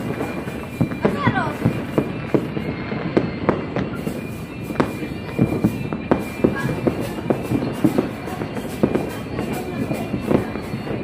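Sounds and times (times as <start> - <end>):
distant fireworks bangs and crackles: 0.0 - 11.0.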